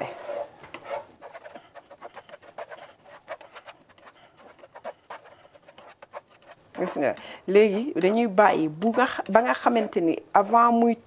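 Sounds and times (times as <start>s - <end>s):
spatula scraping eggs in a pan: 0.0s - 10.0s.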